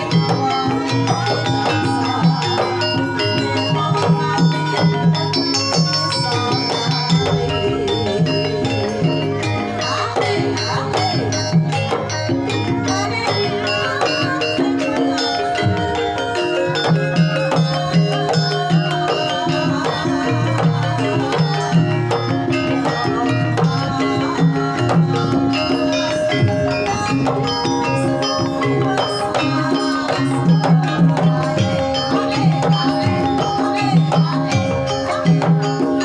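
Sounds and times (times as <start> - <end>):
hand drum beating quickly: 0.0 - 36.0
metallophones and gongs ringing: 0.0 - 36.0.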